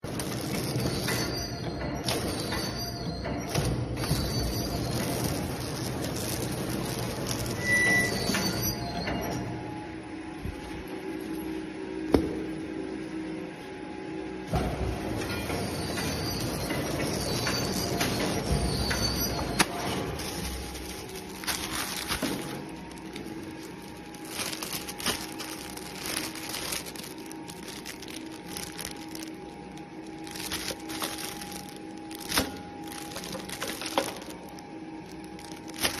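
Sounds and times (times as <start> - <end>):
packaging machine hum: 0.0 - 36.0.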